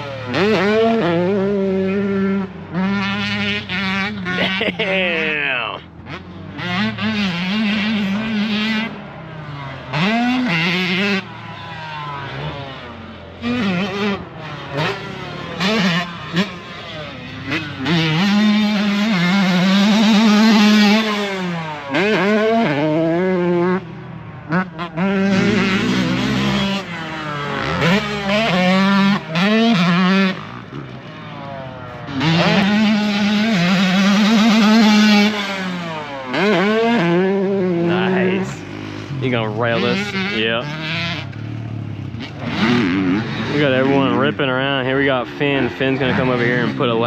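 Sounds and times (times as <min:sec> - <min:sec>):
dirt bike engines revving: 0:00.0 - 0:47.0.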